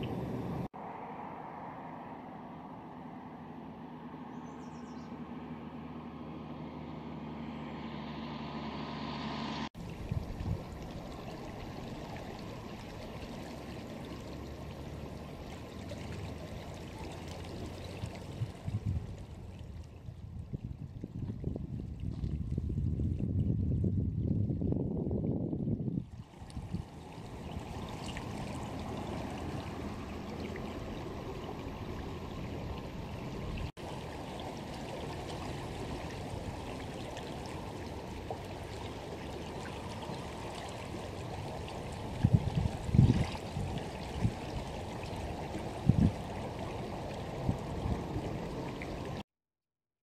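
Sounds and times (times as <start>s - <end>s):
river water flowing: 0.0s - 20.4s, 26.0s - 49.2s.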